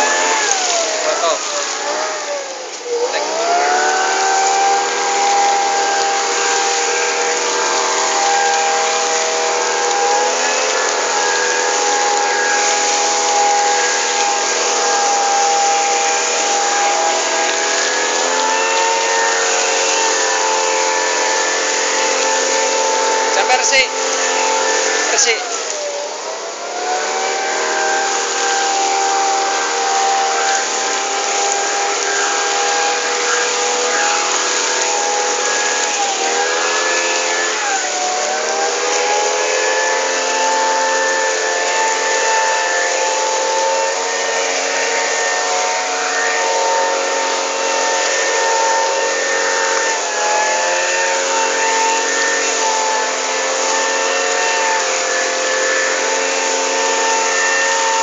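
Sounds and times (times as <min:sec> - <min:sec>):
leaf blower engine whining: 0:00.0 - 0:58.0.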